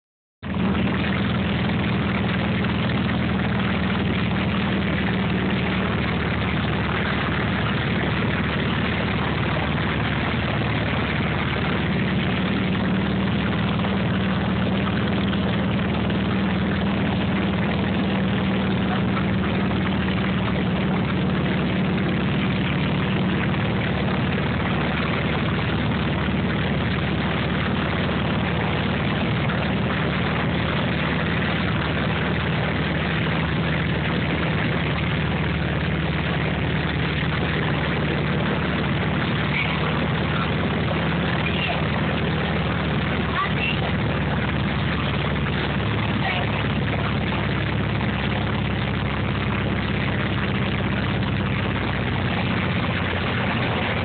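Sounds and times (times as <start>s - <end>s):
propeller airplane engine: 0.0s - 54.0s
loud rushing noise: 0.4s - 54.0s.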